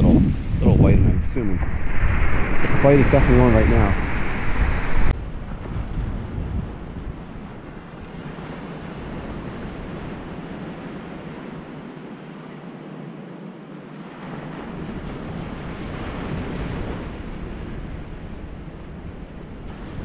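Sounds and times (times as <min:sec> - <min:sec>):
wind rumbling on microphone: 0:00.0 - 0:12.6, 0:14.0 - 0:20.0
ocean surf breaking: 0:00.4 - 0:20.0.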